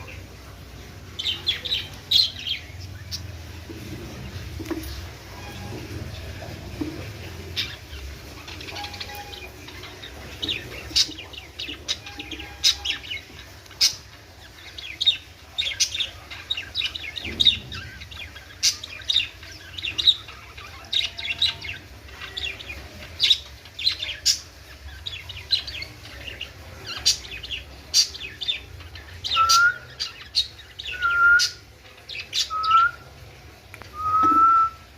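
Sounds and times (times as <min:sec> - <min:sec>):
budgerigars chirping and chattering: 0:00.0 - 0:34.7.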